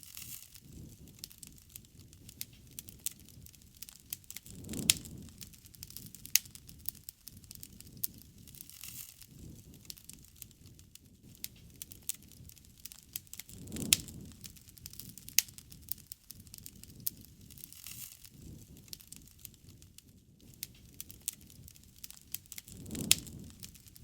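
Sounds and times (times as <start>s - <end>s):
campfire crackling: 0.0s - 24.0s
fire popping sharply: 0.0s - 24.0s.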